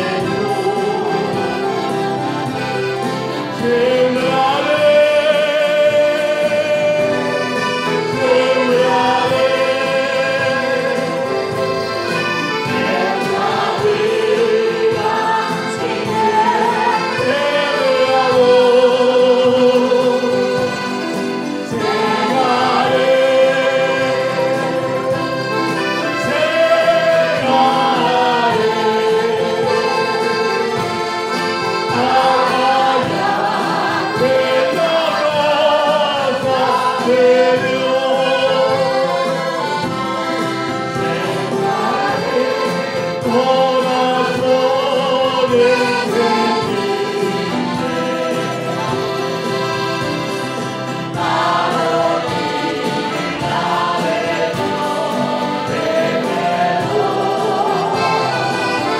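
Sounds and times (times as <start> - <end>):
accordion: 0.0 - 58.9
strummed mandolins: 0.0 - 58.9
voices singing a hymn: 0.0 - 58.9.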